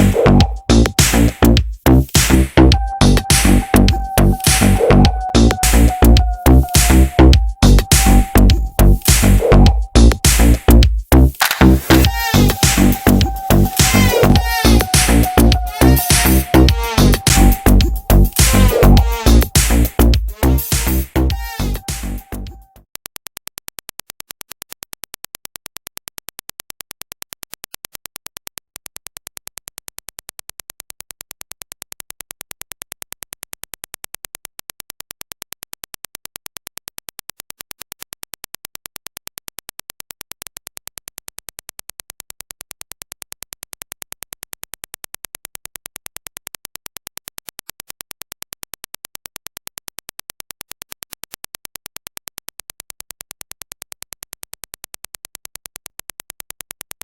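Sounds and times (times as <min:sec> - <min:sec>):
rapid electronic clicks: 0:02.2 - 0:57.0.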